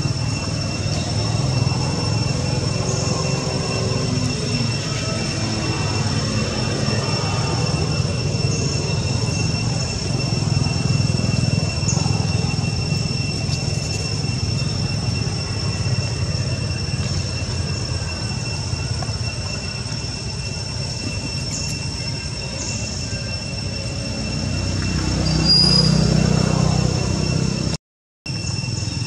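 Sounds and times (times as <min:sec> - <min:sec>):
deeper hum: 0:00.0 - 0:27.8
high-pitched two-tone drone: 0:00.0 - 0:29.0.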